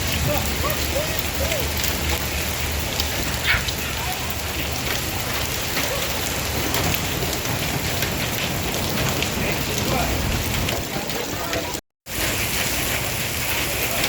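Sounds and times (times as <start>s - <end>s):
hailstones ticking on surfaces: 0.0s - 14.0s
heavy rain hiss: 0.0s - 14.0s.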